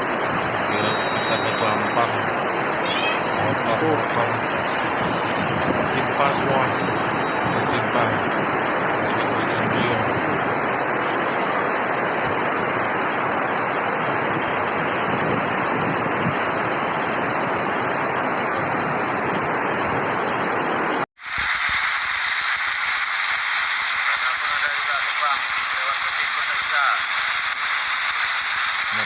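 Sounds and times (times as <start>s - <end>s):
heavy rain in strong wind: 0.0s - 29.0s.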